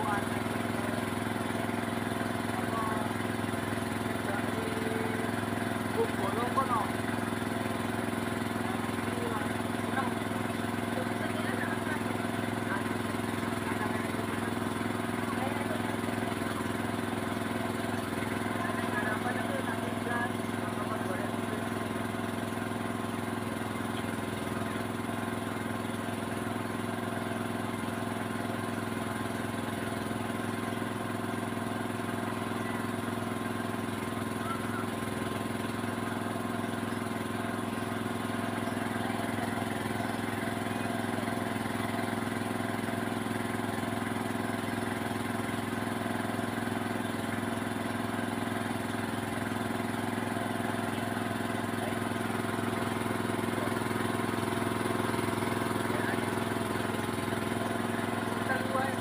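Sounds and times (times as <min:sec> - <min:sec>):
engine humming steadily: 0:00.0 - 0:59.0.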